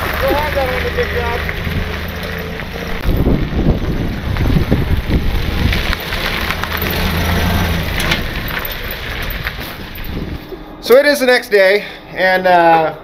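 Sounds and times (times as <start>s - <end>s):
truck engine driving past: 0.0s - 11.0s.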